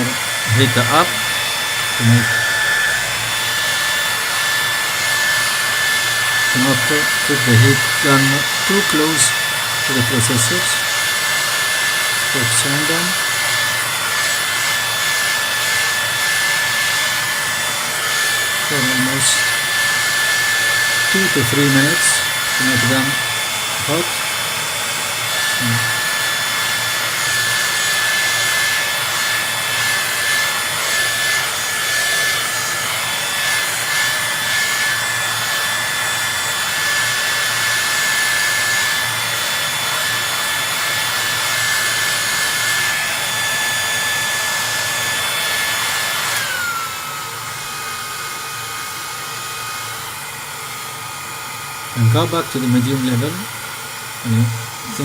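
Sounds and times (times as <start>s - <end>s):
heat gun blowing hot air: 0.0s - 55.0s.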